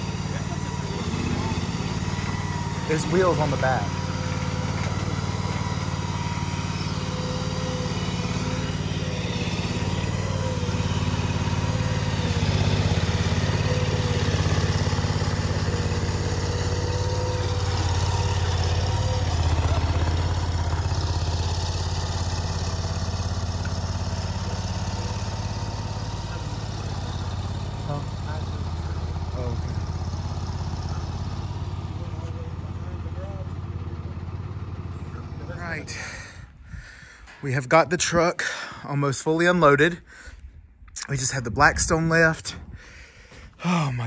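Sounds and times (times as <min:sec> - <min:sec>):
small engine running: 0:00.0 - 0:40.5.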